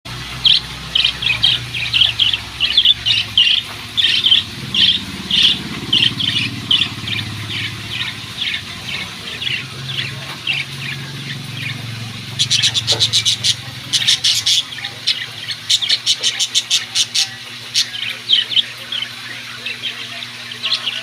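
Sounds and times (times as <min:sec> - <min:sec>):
lovebirds chirping: 0:00.1 - 0:21.0.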